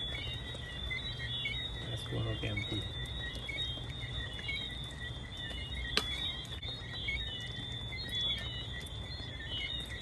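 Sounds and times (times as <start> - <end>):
insect chirps: 0.0 - 10.0
insects trilling: 0.0 - 10.0.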